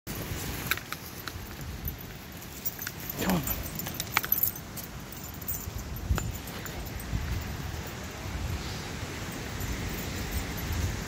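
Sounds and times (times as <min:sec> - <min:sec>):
light metallic jingling: 0:00.1 - 0:11.0.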